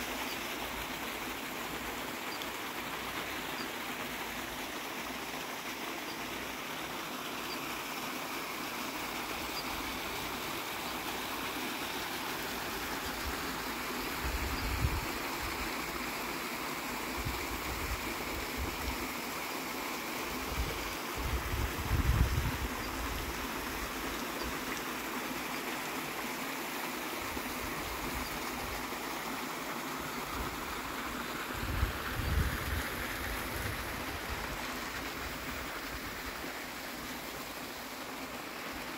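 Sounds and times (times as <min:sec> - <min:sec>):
waterfall pouring into pool: 0:00.0 - 0:21.9, 0:22.5 - 0:38.9.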